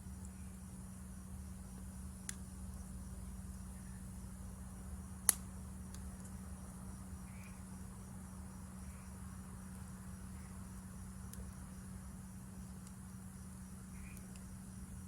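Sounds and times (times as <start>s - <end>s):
insects chirping: 0.0s - 15.0s
campfire crackling: 0.2s - 15.0s.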